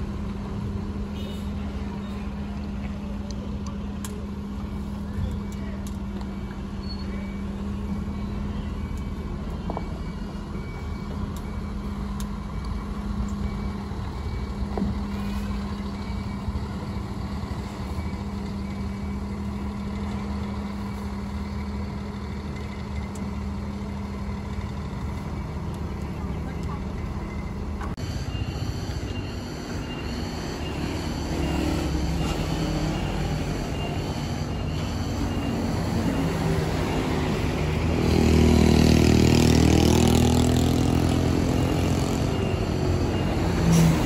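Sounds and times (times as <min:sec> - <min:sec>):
bus diesel engine droning: 0:00.0 - 0:44.0.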